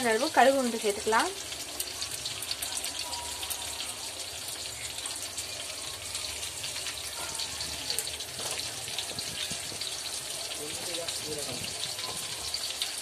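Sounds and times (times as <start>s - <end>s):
seeds sizzling in hot oil: 0.0s - 13.0s.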